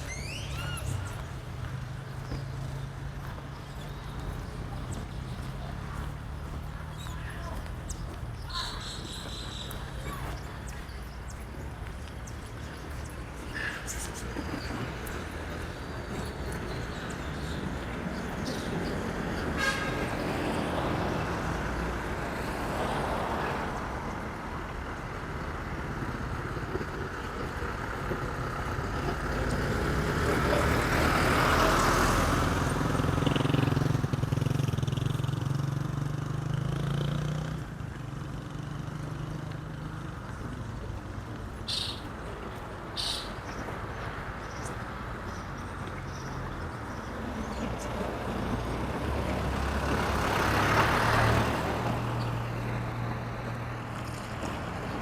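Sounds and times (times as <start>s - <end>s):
vehicle passing: 0.0s - 26.4s, 28.7s - 55.0s
street ambience: 0.0s - 55.0s.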